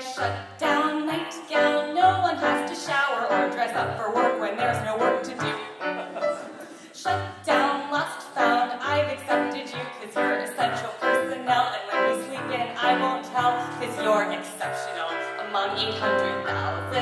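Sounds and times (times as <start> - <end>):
woman singing: 0.0 - 5.9, 6.6 - 17.0.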